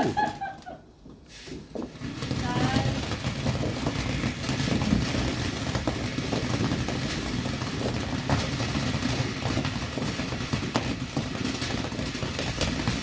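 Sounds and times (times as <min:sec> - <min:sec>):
firework fountain rushing: 0:01.6 - 0:13.0
sharp firework cracks: 0:02.0 - 0:13.0.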